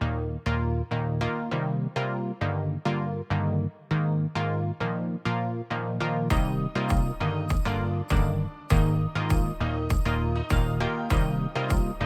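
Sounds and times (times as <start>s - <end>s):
electronic music with plucked synth: 0.0s - 12.0s.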